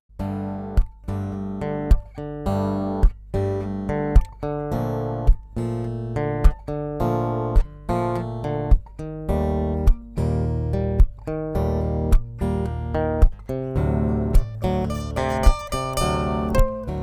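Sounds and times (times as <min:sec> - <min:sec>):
acoustic guitar strummed chords: 0:00.2 - 0:17.0.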